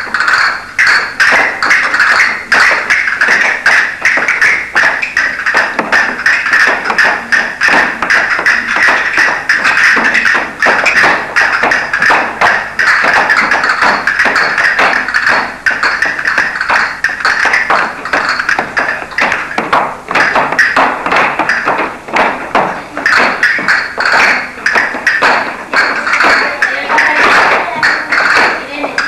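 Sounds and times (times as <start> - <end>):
castanets clicking: 0.0 - 29.0
music: 0.0 - 29.0.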